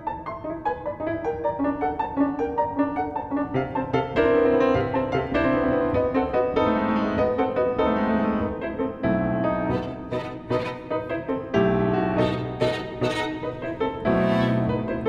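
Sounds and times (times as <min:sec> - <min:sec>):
cello: 0:00.0 - 0:15.0
grand piano playing quick passages: 0:00.0 - 0:15.0
violin: 0:00.0 - 0:15.0.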